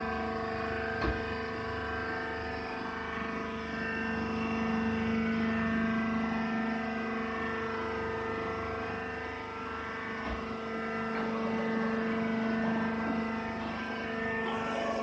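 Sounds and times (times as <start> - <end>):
baling machine humming: 0.0 - 15.0
machine whining tones: 0.0 - 15.0.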